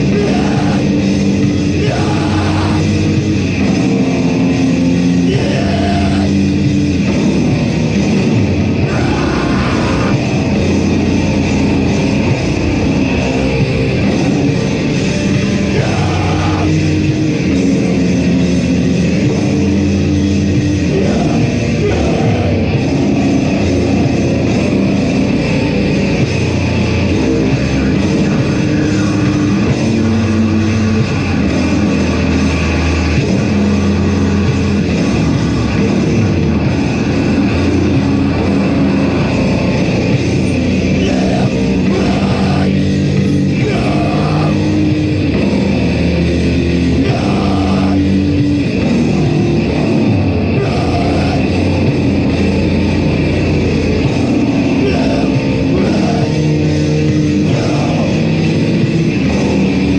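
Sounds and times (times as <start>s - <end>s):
band playing heavy metal live: 0.0s - 59.9s.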